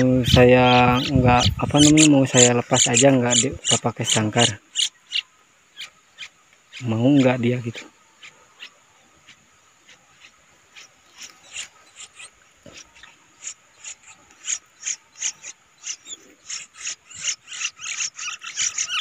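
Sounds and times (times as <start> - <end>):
fledglings begging calls: 0.0 - 19.0.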